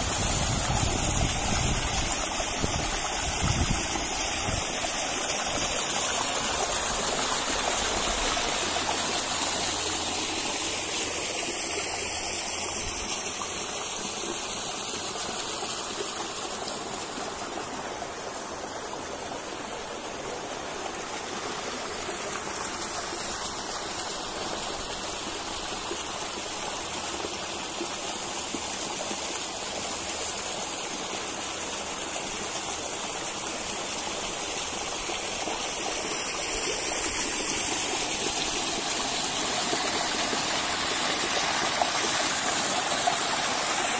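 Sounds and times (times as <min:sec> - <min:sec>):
waterfall rushing and splashing: 0:00.0 - 0:43.9.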